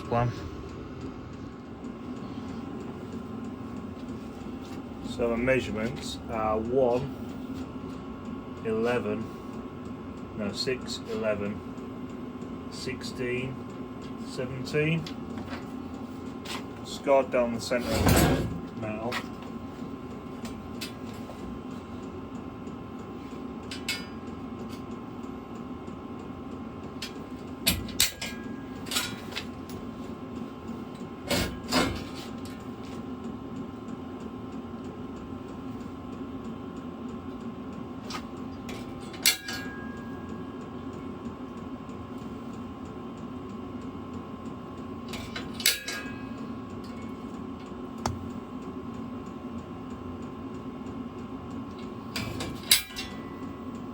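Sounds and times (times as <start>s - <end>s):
steady background hum: 0.0s - 53.9s.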